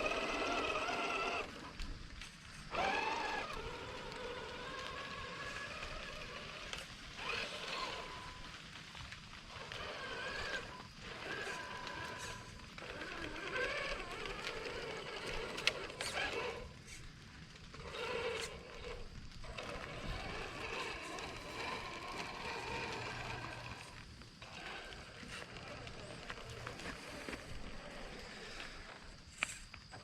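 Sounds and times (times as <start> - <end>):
electric motor whining: 0.0 - 8.6, 9.5 - 30.0.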